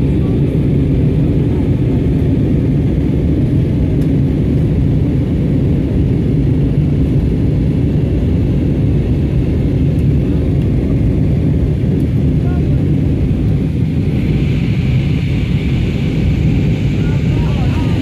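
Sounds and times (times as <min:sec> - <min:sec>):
airliner cabin engine hum: 0:00.0 - 0:18.0.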